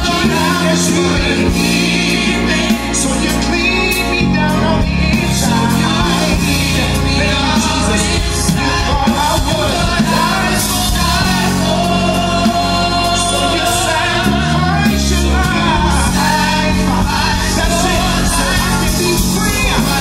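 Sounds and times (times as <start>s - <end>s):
backing vocalists: 0.0s - 20.0s
instrumental accompaniment with low bass: 0.0s - 20.0s
lead singer singing gospel: 0.0s - 20.0s.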